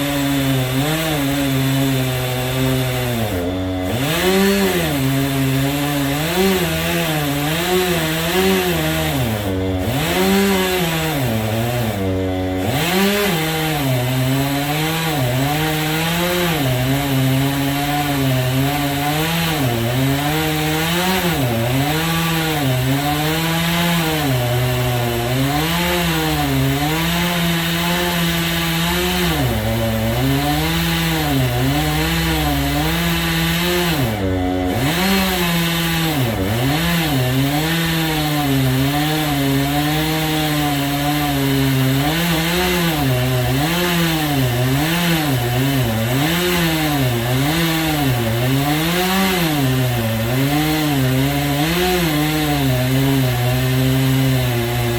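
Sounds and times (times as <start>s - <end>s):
chainsaw cutting through log: 0.0s - 54.9s.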